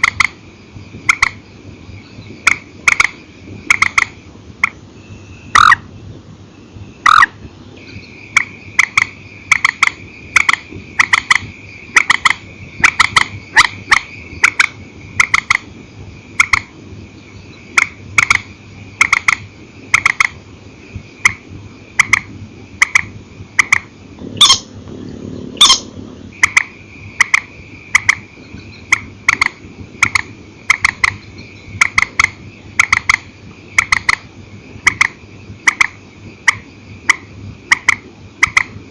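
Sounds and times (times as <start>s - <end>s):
swamphen calls: 0.0s - 0.4s, 1.0s - 4.8s, 5.4s - 5.9s, 7.0s - 20.4s, 21.2s - 38.8s.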